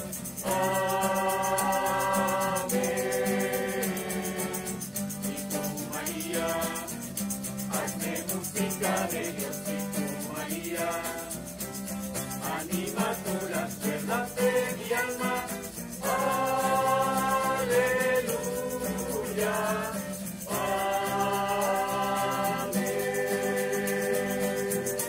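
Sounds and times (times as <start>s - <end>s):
choir singing a hymn: 0.0s - 7.1s, 7.7s - 11.5s, 12.4s - 25.0s.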